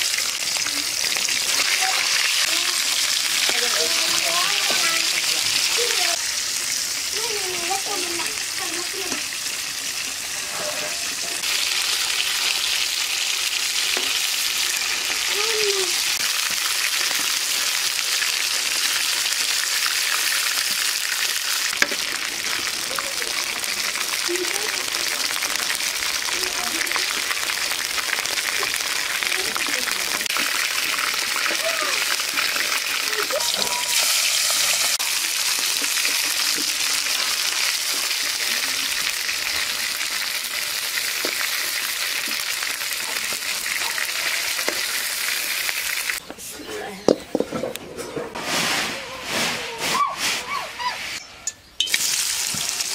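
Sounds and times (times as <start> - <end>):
fish frying in hot oil: 0.0 - 46.2, 51.8 - 52.9.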